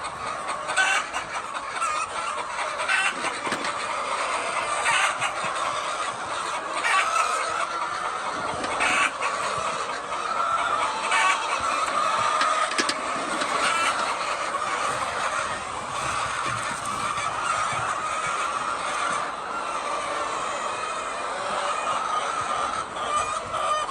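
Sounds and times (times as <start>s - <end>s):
hens clucking: 0.0s - 23.9s.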